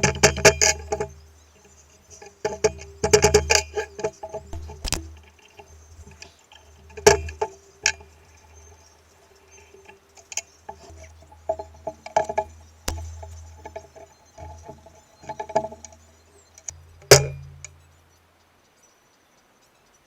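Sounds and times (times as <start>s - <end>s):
low steady hum: 0.0s - 19.4s.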